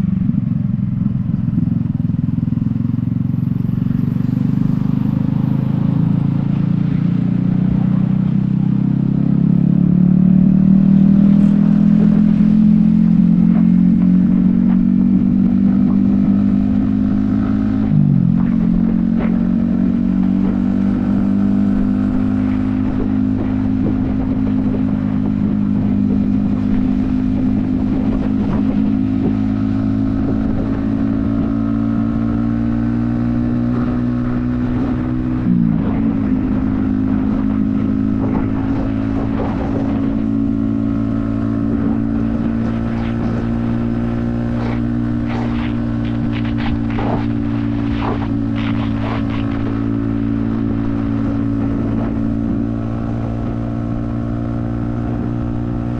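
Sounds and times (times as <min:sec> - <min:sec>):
motorcycle engine cruising: 0:00.0 - 0:55.9
wind noise on microphone: 0:00.0 - 0:55.9.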